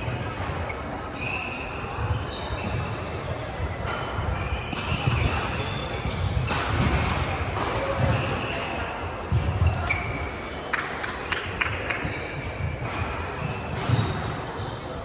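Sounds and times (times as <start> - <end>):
busy sports hall noise: 0.0 - 15.0
sneakers squeaking on court: 0.0 - 15.0.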